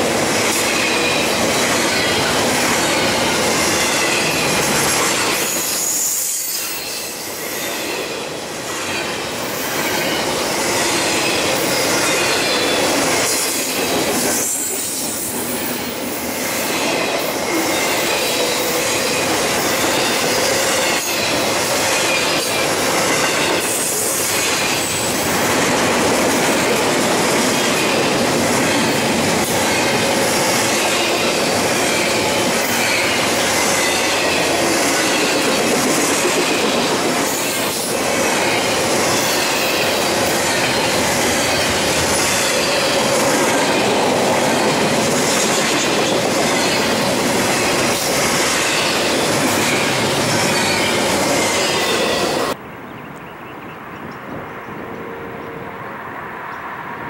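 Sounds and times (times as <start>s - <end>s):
train wheels rumbling on rail: 0.0s - 52.6s.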